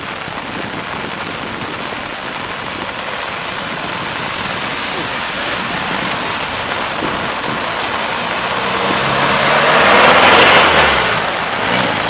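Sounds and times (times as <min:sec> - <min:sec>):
heavy rain: 0:00.0 - 0:12.0
truck engine hum: 0:00.0 - 0:12.0
water rushing off tyres: 0:00.0 - 0:12.0.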